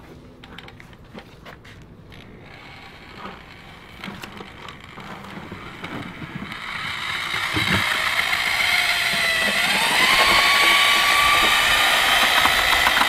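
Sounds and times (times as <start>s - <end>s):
paddle mixer drill motor: 2.1s - 13.0s.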